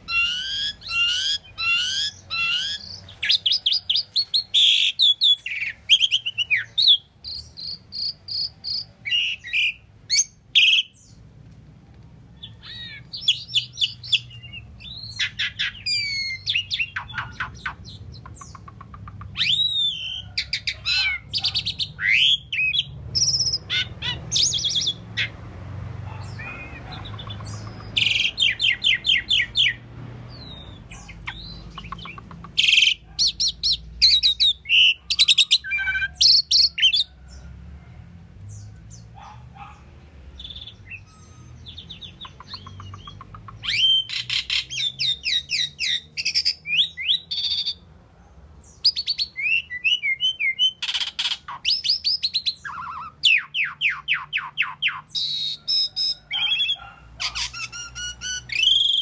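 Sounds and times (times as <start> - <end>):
starling chattering and whistling: 0.0 - 11.1, 12.4 - 25.3, 26.1 - 37.1, 40.4 - 47.8, 48.8 - 59.0.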